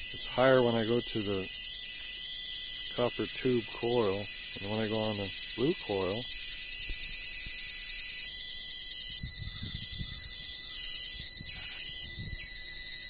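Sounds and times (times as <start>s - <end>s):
high-pitched electrical buzz: 0.0s - 13.0s
thin whining tones: 0.0s - 13.0s.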